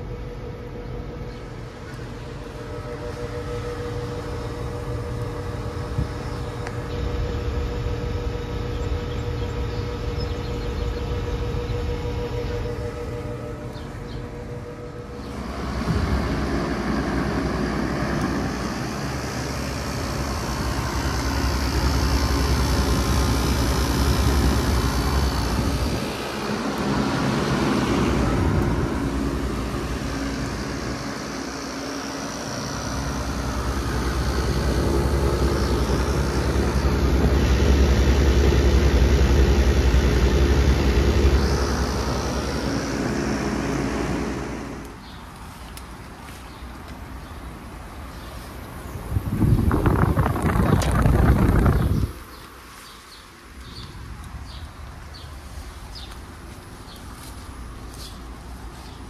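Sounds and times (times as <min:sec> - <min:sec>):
air conditioner compressor hum: 0:00.0 - 0:59.0
condenser fan whoosh: 0:00.0 - 0:59.0.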